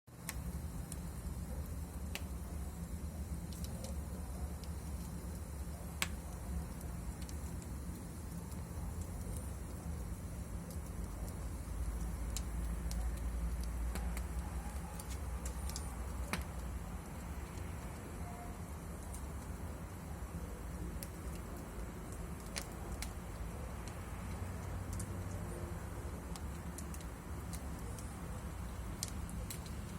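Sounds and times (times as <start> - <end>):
faint fire crackle: 0.1 - 29.9
fire flames rumbling: 0.2 - 29.9.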